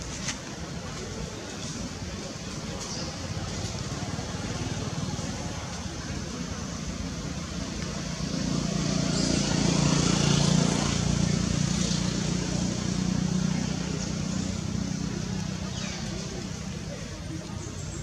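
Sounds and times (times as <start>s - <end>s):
outdoor background noise: 0.0s - 18.0s
motor vehicle engine drone: 2.2s - 18.0s.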